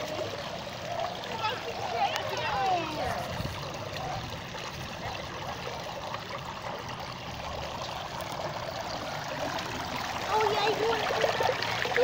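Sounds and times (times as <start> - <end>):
fountain water trickling: 0.0 - 12.0.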